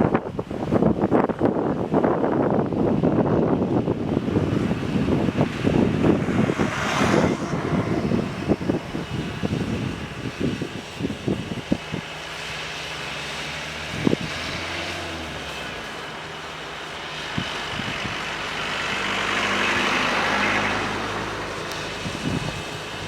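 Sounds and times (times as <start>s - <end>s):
engine running steadily: 0.0s - 23.0s
wind buffeting microphone: 0.0s - 23.0s
vehicle rushing past: 3.8s - 23.0s.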